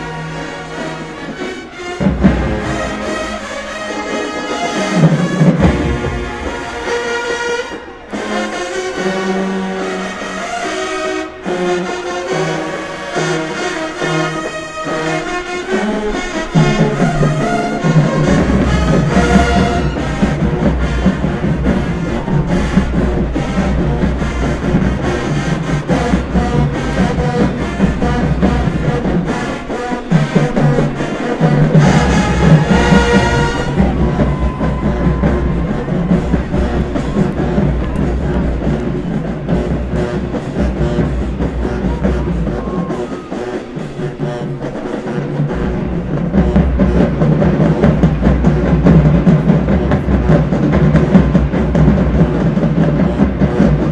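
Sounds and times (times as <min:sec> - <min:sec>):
marching band playing: 0:00.0 - 0:53.9.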